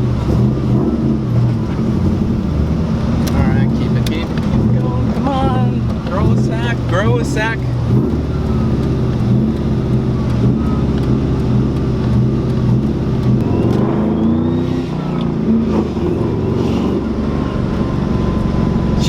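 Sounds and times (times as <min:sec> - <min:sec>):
car engine revving while driving: 0:00.0 - 0:19.0.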